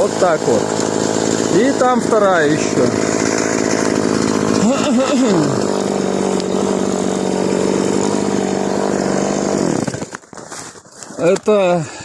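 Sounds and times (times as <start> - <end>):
chainsaw running: 0.0 - 12.0.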